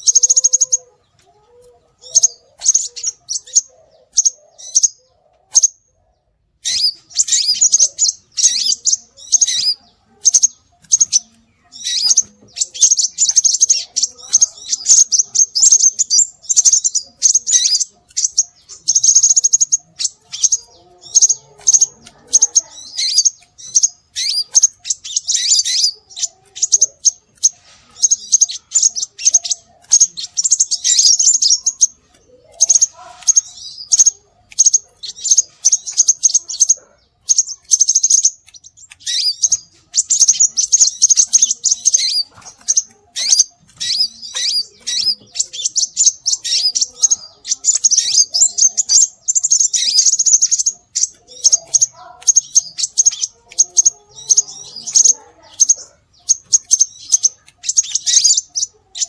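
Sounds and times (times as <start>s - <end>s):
high-pitched bird chirps: 0.0s - 59.0s.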